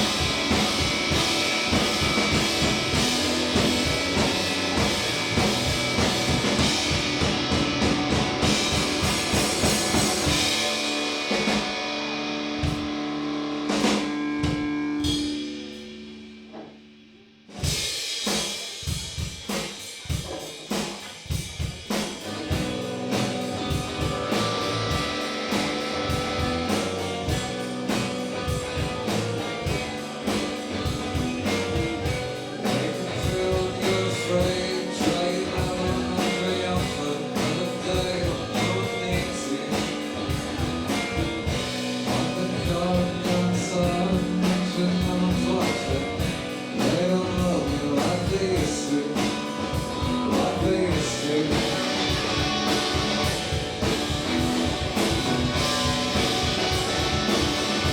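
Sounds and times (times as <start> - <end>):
rock band playing live: 0.0 - 16.9, 17.5 - 57.9.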